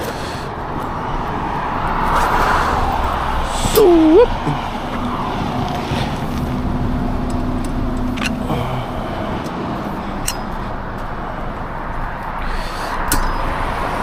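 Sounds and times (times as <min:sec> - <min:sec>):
car engine running: 0:00.0 - 0:14.0
road and traffic rumble: 0:00.0 - 0:14.0.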